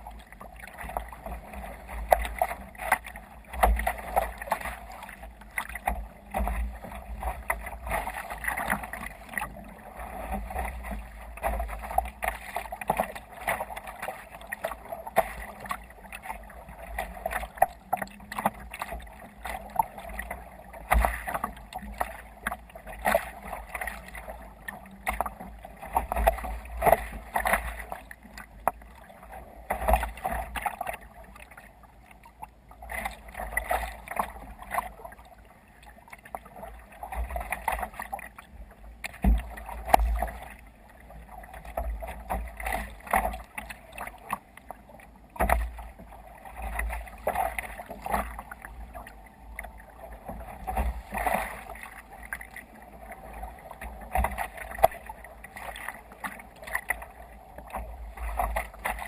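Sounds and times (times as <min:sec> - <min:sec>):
water sloshing against kayak hull: 0:00.0 - 0:59.0.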